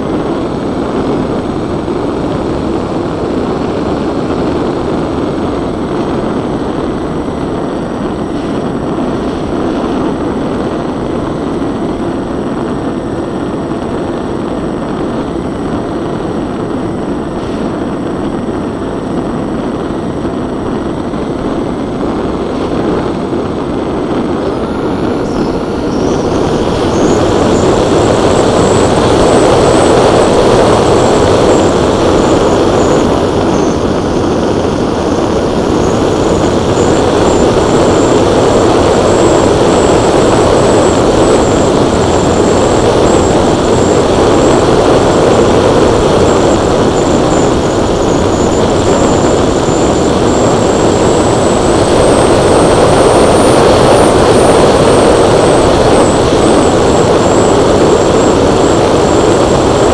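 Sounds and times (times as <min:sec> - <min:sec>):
high motor whine: 0:00.0 - 0:59.9
propeller and wind rush: 0:00.0 - 0:59.9.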